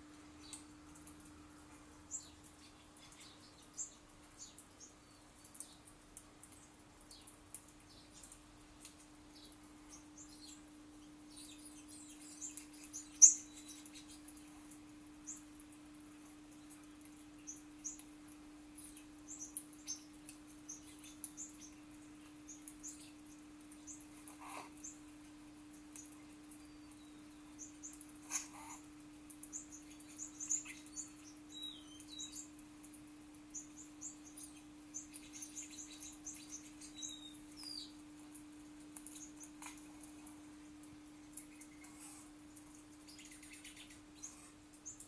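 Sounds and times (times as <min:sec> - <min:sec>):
small songbirds chirping: 0:00.0 - 0:45.0.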